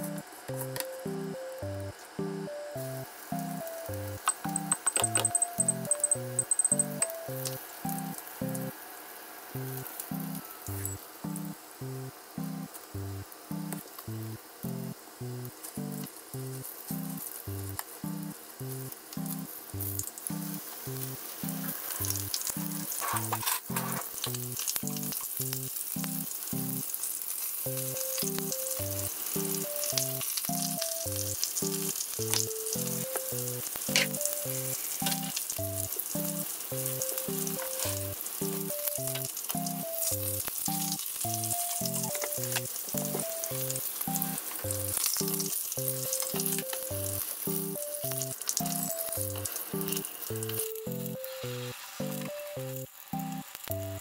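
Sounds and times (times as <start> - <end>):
light music with steady beat: 0.0 - 8.8, 9.6 - 26.8, 27.7 - 54.0
oil sizzling in a frying pan: 2.8 - 54.0.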